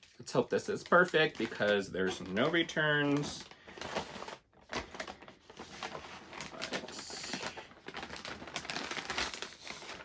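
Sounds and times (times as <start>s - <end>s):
plastic mailer crinkling: 0.0s - 10.0s.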